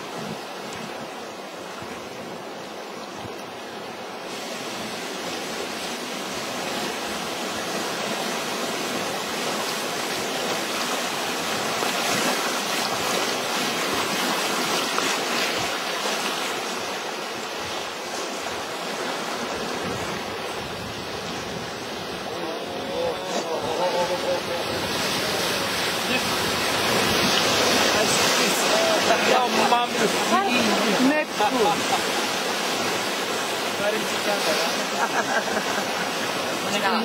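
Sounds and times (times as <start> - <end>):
river rapids rushing: 0.0 - 37.0.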